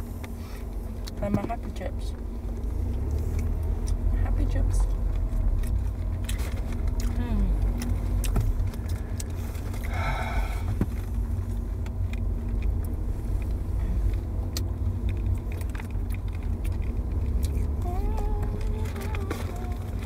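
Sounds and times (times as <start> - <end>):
car engine rumble from inside: 0.0 - 20.0.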